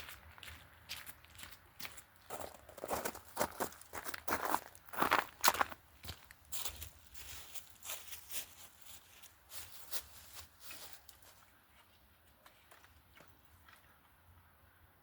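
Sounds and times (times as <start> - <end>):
footsteps on dry ground: 0.0 - 14.0.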